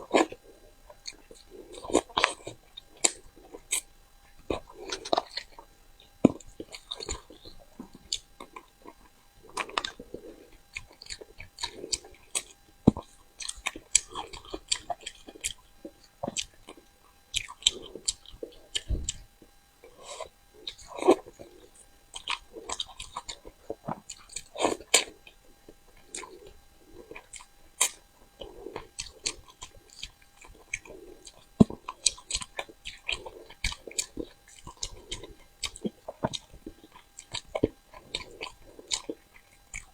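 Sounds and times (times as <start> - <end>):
wet chewing smacks and clicks: 0.1 - 39.9.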